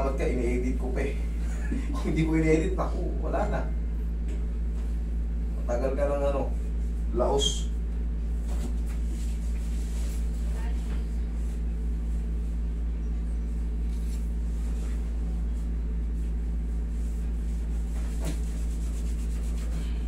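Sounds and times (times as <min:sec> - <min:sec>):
air conditioner humming: 0:00.0 - 0:20.0.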